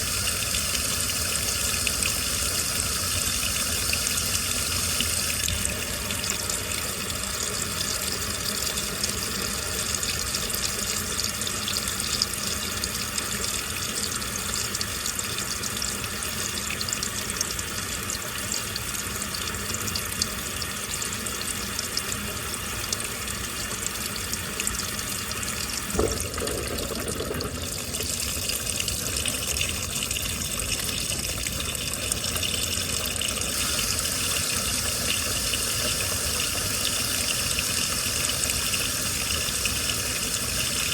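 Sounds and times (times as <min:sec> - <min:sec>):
water filling washing machine: 0:00.0 - 0:40.9.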